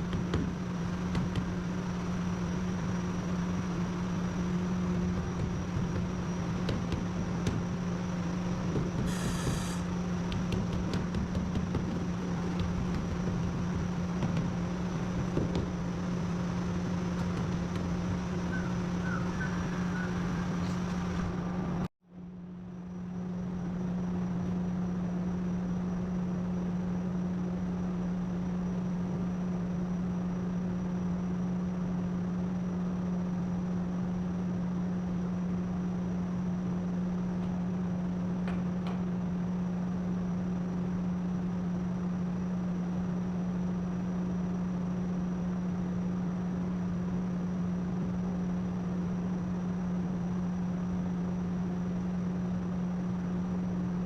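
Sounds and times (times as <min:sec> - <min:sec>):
motor hum: 0:00.0 - 0:54.0.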